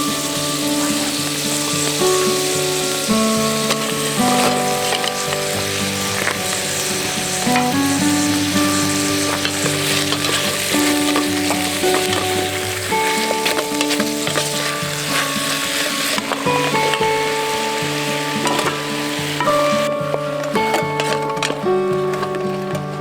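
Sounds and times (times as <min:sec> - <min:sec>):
background music of held notes: 0:00.0 - 0:23.0
crackling and sizzling with pops: 0:00.0 - 0:23.0.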